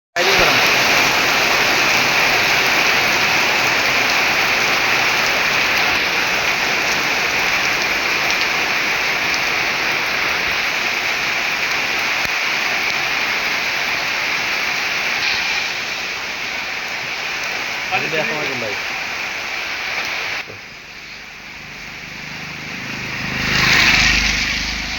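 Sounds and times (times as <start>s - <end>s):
rain falling: 0.2s - 24.9s.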